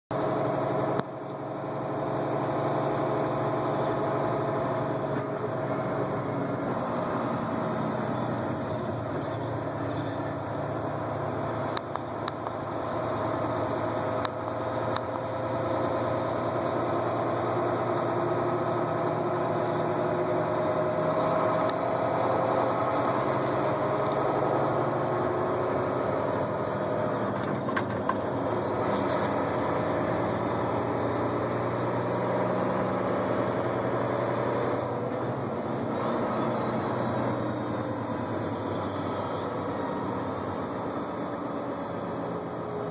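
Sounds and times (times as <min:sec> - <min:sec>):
vehicle engine and road noise: 0:00.1 - 0:42.9.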